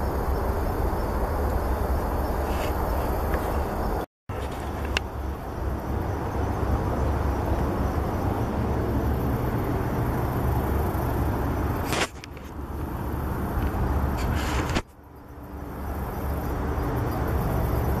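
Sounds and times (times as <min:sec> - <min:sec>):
distant highway traffic drone: 0:00.0 - 0:18.0.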